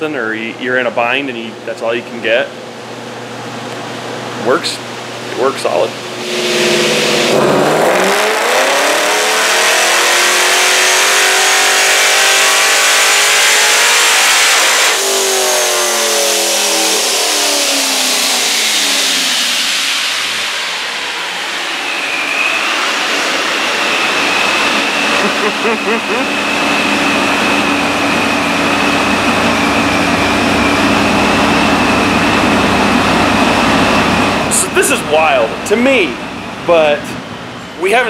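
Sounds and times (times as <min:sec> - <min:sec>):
high supercharger whine: 0:00.0 - 0:38.0
car engine at full throttle: 0:06.1 - 0:37.7.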